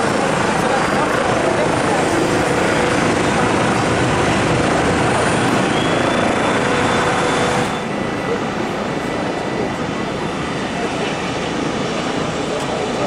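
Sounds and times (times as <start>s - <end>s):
faint high whine: 0.0s - 13.0s
jet engines rumble and hiss: 0.0s - 13.0s.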